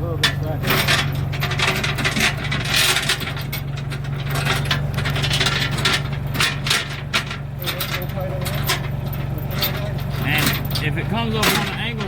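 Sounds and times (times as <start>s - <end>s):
idling engine hum: 0.0s - 12.0s
metal chain clinking and scraping: 0.2s - 12.0s.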